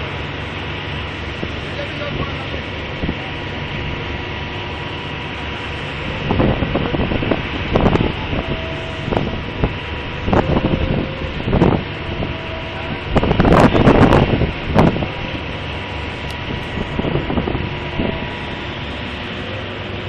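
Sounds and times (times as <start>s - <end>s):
heavy machinery running: 0.0s - 20.0s.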